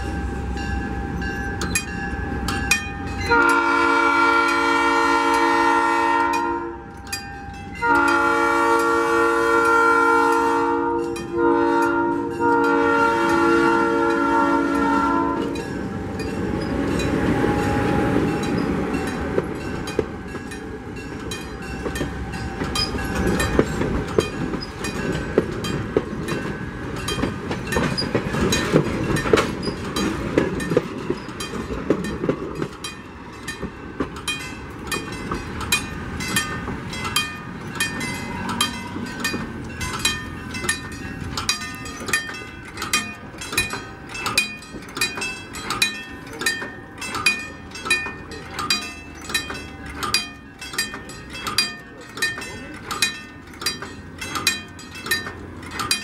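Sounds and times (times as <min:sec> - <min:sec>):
railroad crossing bell ringing: 0:00.0 - 0:56.0
train rumbling past: 0:00.0 - 0:56.0
wheels clicking over rail joints: 0:00.0 - 0:56.0.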